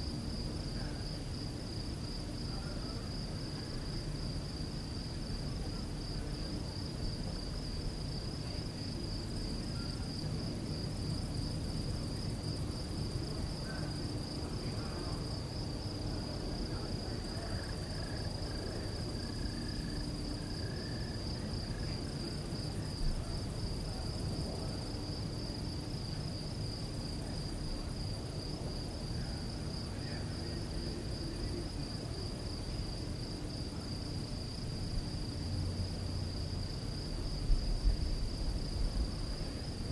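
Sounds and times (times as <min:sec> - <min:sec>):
crickets chirping: 0:00.0 - 0:39.9
low background rumble: 0:00.1 - 0:39.9.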